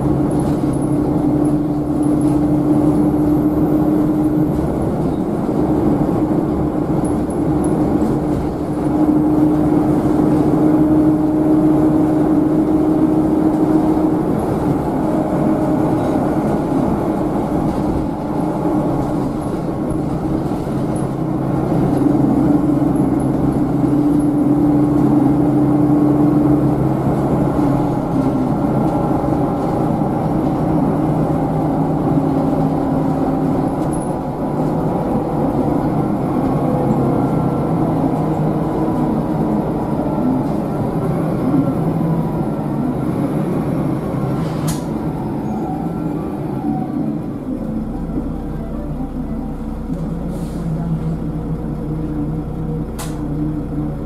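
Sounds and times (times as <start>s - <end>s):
bus diesel engine: 0.0s - 54.0s
road noise: 0.0s - 54.0s.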